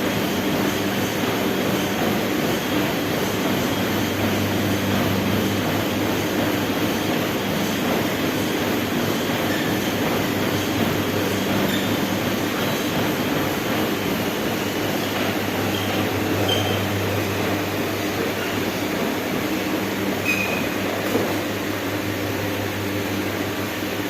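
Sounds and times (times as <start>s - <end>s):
treadmill running: 0.0s - 24.0s.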